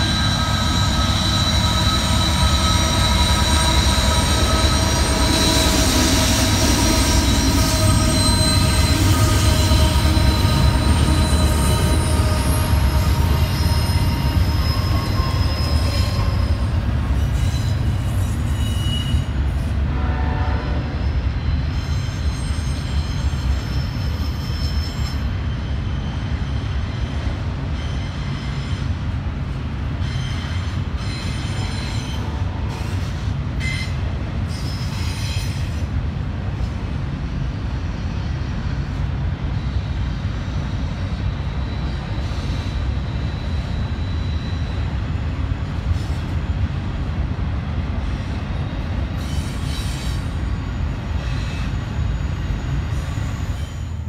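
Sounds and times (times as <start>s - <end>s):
high ringing wheel squeal: 0.0s - 19.6s, 20.9s - 26.7s, 27.7s - 28.9s, 30.0s - 35.8s, 39.6s - 45.2s, 48.6s - 54.0s
train wheels rumbling on rail: 0.0s - 54.0s.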